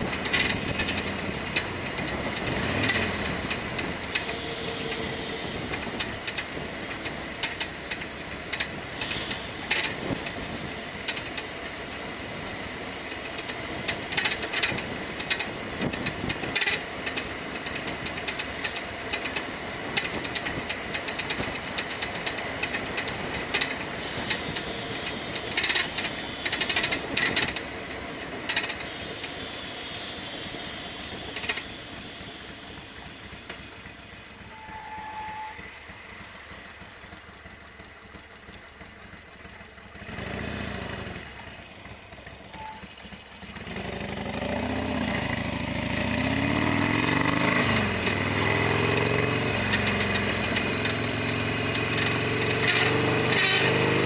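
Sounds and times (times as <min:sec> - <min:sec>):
motorcycle knocking and clattering: 0:00.0 - 0:29.4, 0:31.2 - 0:34.8, 0:35.5 - 0:54.0
motorcycle engine revving: 0:00.0 - 0:54.0.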